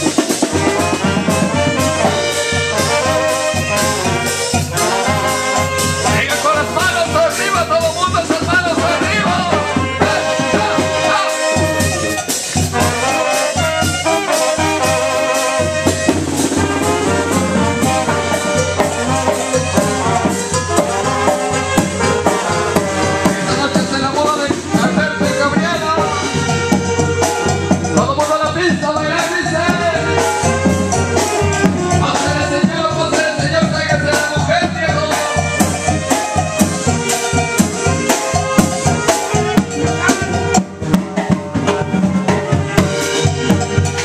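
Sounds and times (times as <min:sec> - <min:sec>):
brass band playing dance music: 0:00.0 - 0:44.0.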